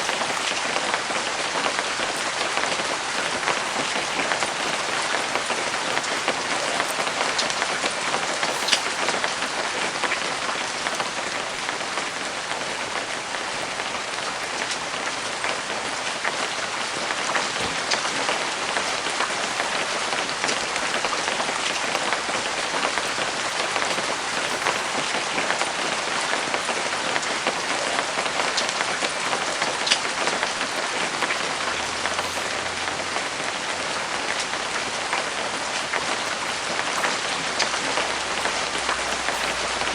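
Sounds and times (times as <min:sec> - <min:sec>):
light rain hissing: 0:00.0 - 0:39.9
raindrops ticking: 0:00.0 - 0:39.9.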